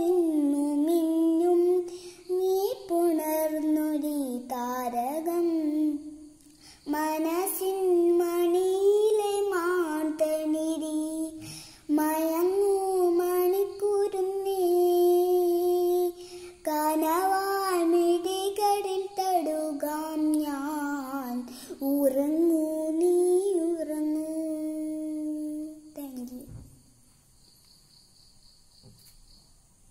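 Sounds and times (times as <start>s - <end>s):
girl singing: 0.0s - 26.7s.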